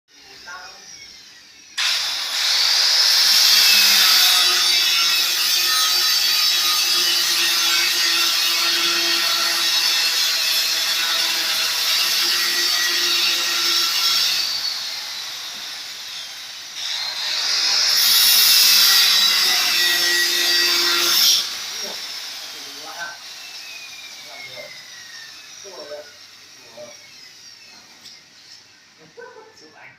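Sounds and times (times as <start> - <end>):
electric power tool cutting: 0.2 - 29.3.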